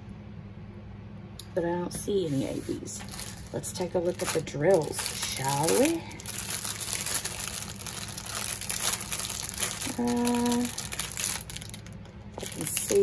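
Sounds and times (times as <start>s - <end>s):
steady hum: 0.0s - 13.0s
plastic bag crinkling: 2.5s - 13.0s.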